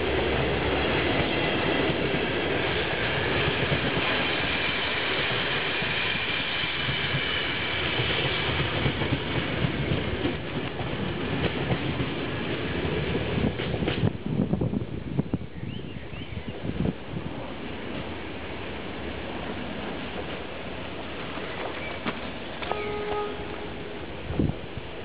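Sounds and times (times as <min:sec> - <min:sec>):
clickety-clack over rail joints: 0:00.0 - 0:15.8, 0:16.6 - 0:25.0
train wheels rushing on rail: 0:00.0 - 0:25.0.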